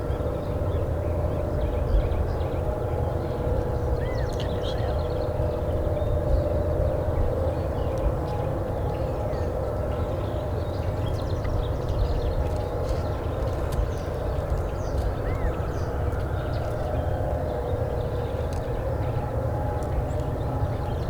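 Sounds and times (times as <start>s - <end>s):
small songbirds chirping: 1.6s - 21.0s.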